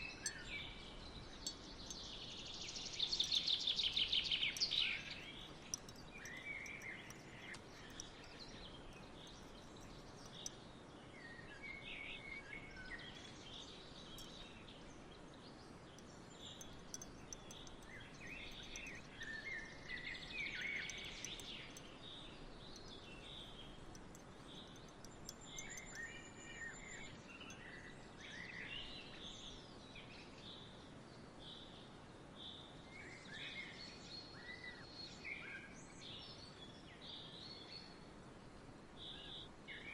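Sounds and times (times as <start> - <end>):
songbirds chirping and trilling: 0.0 - 38.0
outdoor ambience hiss: 0.0 - 39.9.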